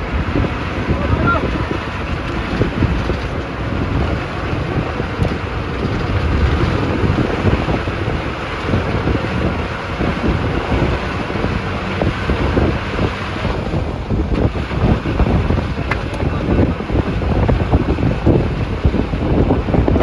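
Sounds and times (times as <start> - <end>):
moving bus running: 0.0 - 20.0
wind buffeting microphone: 0.0 - 20.0.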